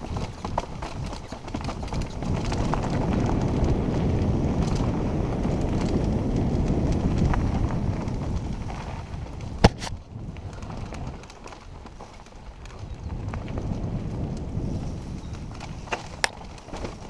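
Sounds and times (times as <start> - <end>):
bike tyres rumbling: 0.0 - 17.0.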